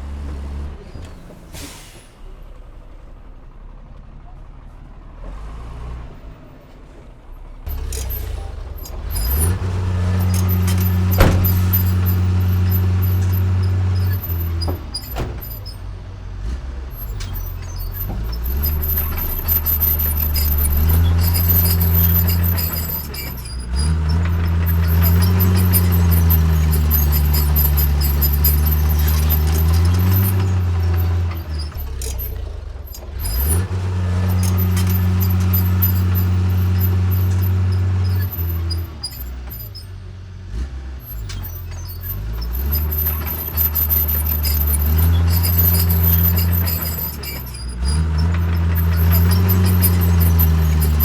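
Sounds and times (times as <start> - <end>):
bulldozer diesel engine under load: 0.0 - 51.0.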